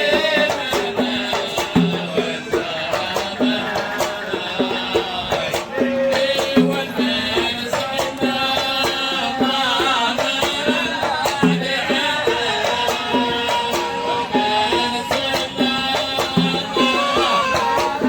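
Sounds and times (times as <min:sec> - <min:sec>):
drum strokes: 0:00.0 - 0:18.0.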